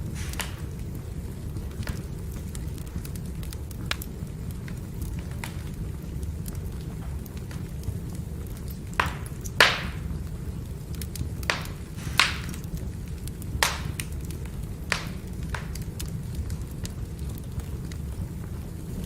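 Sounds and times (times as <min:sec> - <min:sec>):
fire crackling pops: 0:00.0 - 0:19.0
firewood burning with low rumble: 0:00.0 - 0:19.0.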